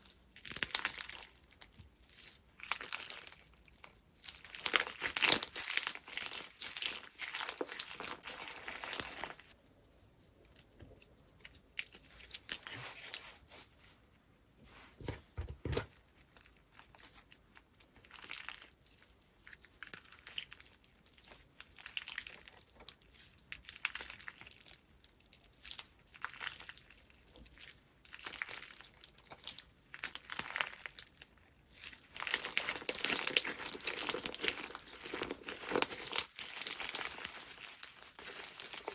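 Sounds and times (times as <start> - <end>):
slime crackling and crinkling: 0.0 - 9.6, 10.3 - 13.7, 15.9 - 38.9
slime squishing: 0.0 - 9.6, 16.1 - 38.9.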